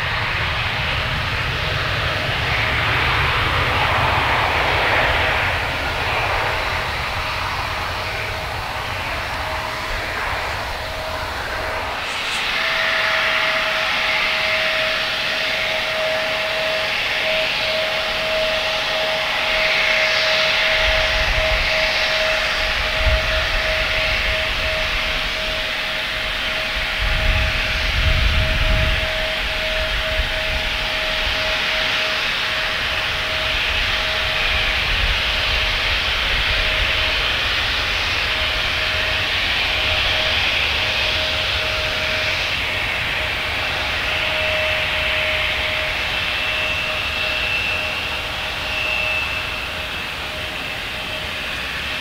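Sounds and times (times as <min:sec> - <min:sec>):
constant rushing noise: 0:00.0 - 0:52.0
jet engines whining: 0:00.0 - 0:52.0.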